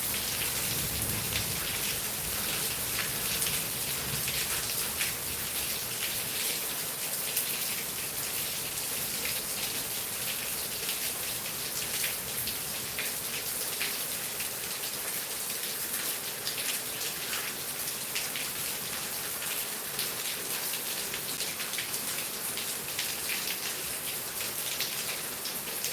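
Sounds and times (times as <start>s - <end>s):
heavy rain on hard surface: 0.0s - 25.9s.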